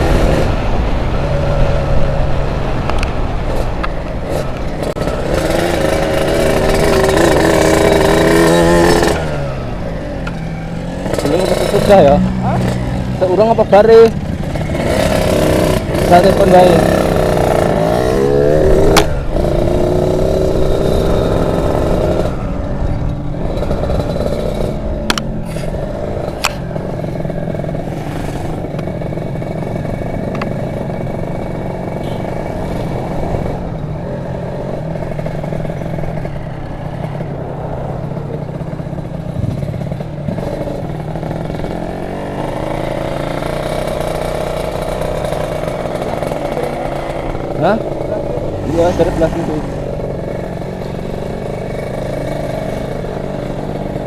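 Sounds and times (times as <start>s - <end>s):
motorcycle engine running: 3.2s - 54.0s.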